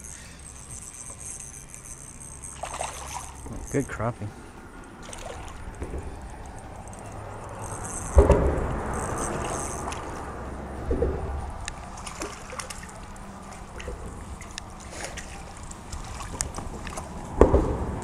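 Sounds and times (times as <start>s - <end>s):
water sloshing: 0.0s - 3.9s, 4.5s - 17.4s
fishing reel reeling: 0.0s - 10.6s, 11.6s - 17.3s.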